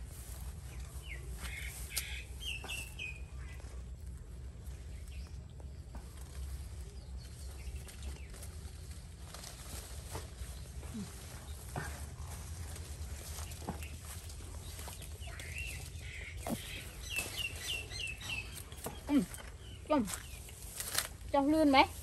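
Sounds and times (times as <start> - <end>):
steady low rumble: 3.2 - 21.3.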